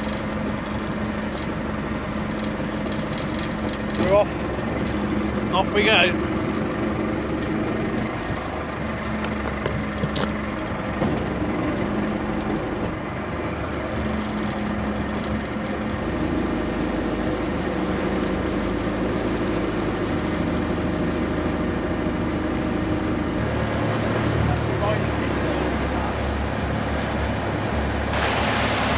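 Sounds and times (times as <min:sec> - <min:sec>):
motorboat engine running: 0:00.0 - 0:28.9.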